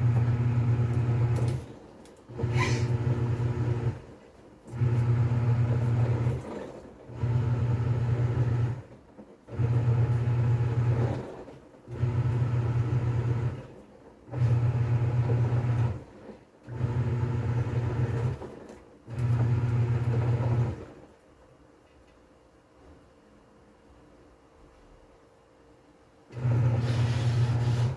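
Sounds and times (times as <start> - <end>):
washing machine motor humming: 0.0 - 21.2, 26.3 - 27.9.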